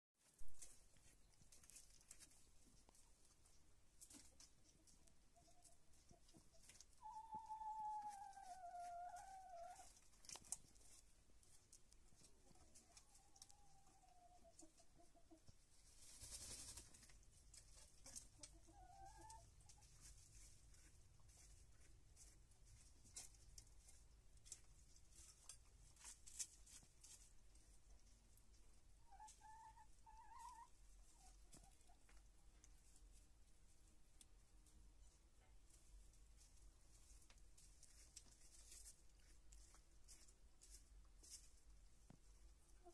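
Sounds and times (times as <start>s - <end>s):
hens pecking in wood shavings: 0.2s - 42.9s.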